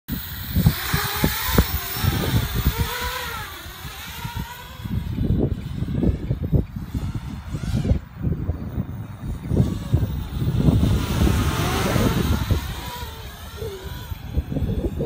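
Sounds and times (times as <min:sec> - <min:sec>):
drone motors whining: 0:00.1 - 0:15.0.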